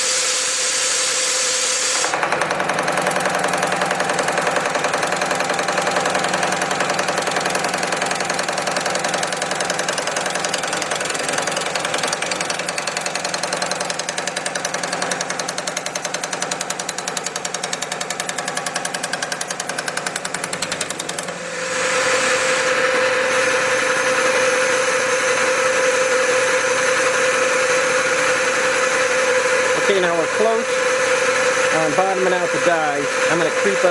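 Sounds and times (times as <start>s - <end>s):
metal forming machine running: 0.0s - 33.9s.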